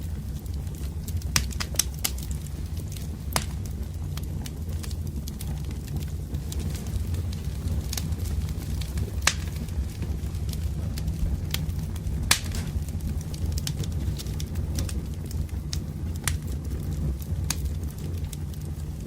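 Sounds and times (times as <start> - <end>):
logs crackling and popping: 0.0 - 19.0
wood fire rumbling: 0.0 - 19.0.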